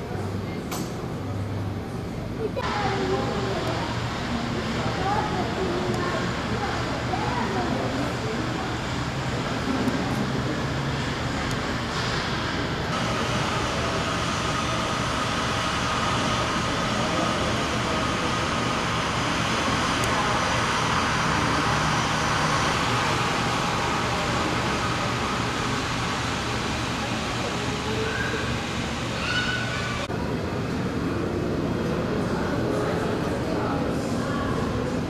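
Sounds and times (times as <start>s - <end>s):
thin engine whine: 1.6s - 33.2s
jet engines rushing: 2.6s - 35.0s.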